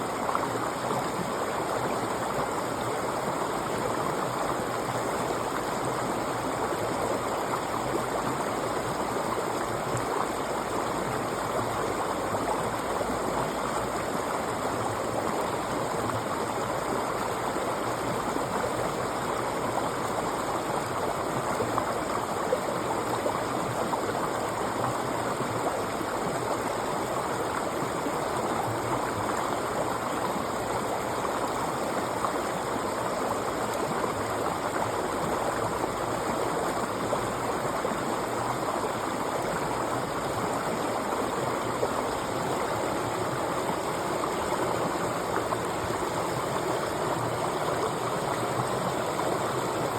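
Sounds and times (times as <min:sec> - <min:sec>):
river water flowing over rocks: 0:00.0 - 0:49.9.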